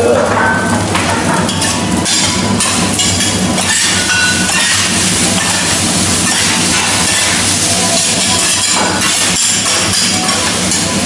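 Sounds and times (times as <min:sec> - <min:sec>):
steady sizzle: 0:00.0 - 0:11.0
metal spatulas scraping griddle: 0:00.3 - 0:11.0.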